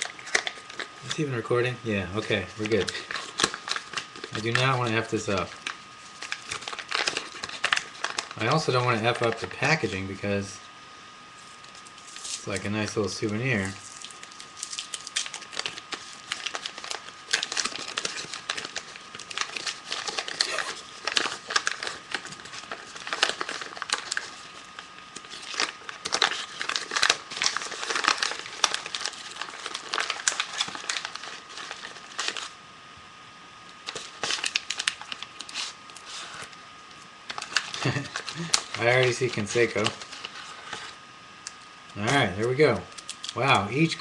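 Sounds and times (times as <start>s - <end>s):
wrapper crinkling and rustling: 0.0s - 1.3s, 2.2s - 10.1s, 11.4s - 32.6s, 33.8s - 44.0s.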